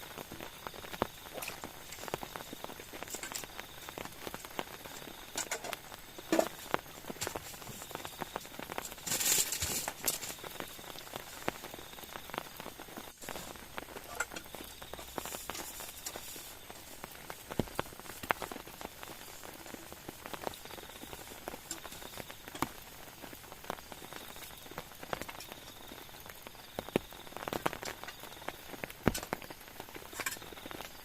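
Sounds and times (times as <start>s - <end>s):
rain falling: 0.0s - 31.0s
raindrops ticking: 0.0s - 31.0s.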